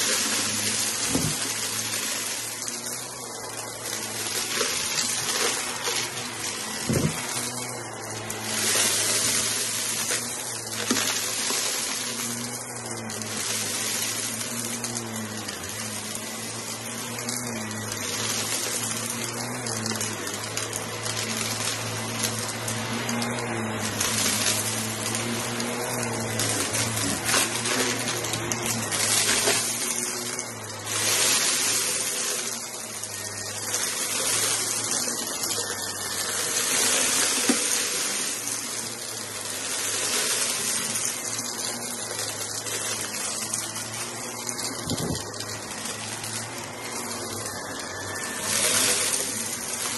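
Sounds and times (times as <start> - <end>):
upright vacuum cleaner running: 0.0 - 49.9
vacuum crunching debris: 0.0 - 49.9.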